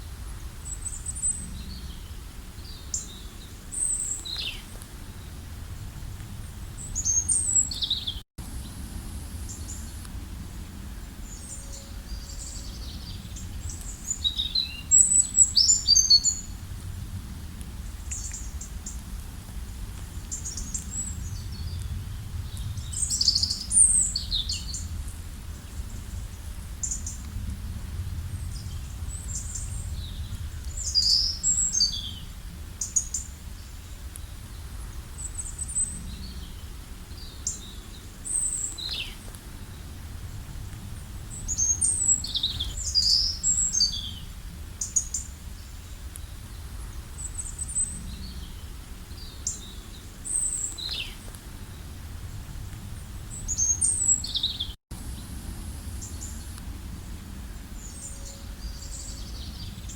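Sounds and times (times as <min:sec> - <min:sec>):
steady low rumble: 0:00.0 - 0:59.9
songbirds chirping: 0:00.2 - 0:08.8, 0:09.4 - 0:59.9.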